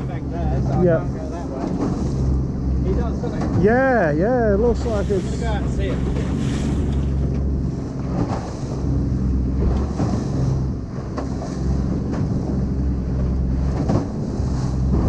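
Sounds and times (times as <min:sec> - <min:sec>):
boat engine running: 0:00.0 - 0:15.0
water rushing past hull: 0:00.0 - 0:15.0
wind buffeting microphone: 0:00.0 - 0:15.0.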